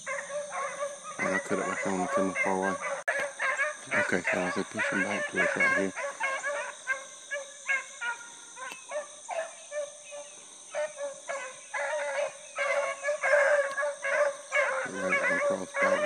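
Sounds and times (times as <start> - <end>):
dogs baying: 0.0 - 16.0.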